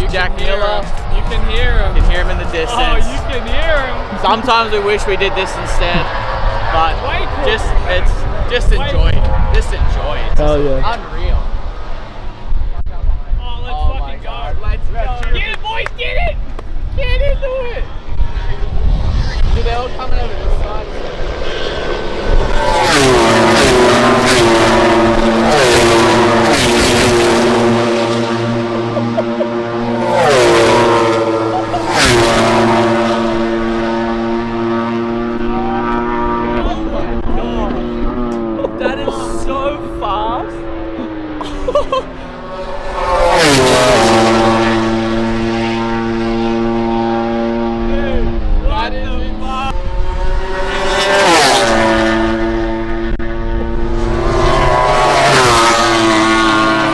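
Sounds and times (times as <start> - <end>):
racing motorcycle engines screaming: 0.0 - 12.4, 14.2 - 56.9.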